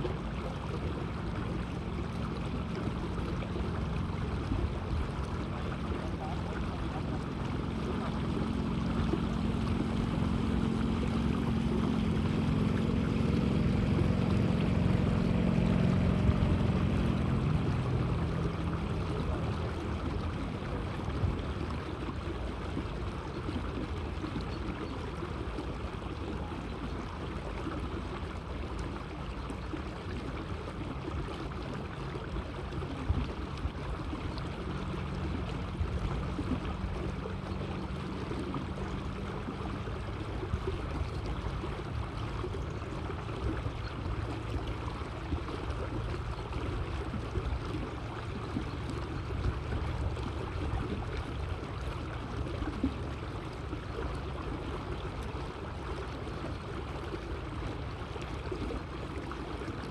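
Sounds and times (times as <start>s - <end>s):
low droning hum: 0.0s - 59.9s
water lapping against boat hull: 0.0s - 59.9s
wind: 0.0s - 59.9s.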